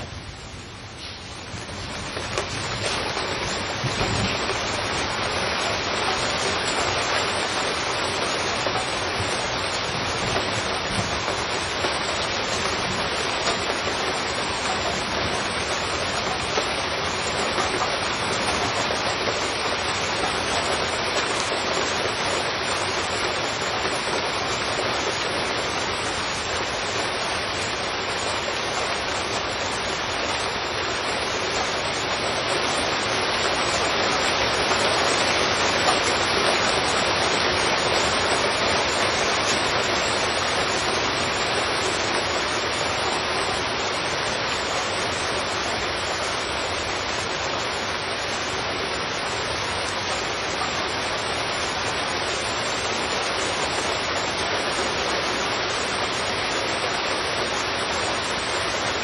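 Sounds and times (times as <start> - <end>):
heavy rain on a street: 0.0 - 59.0.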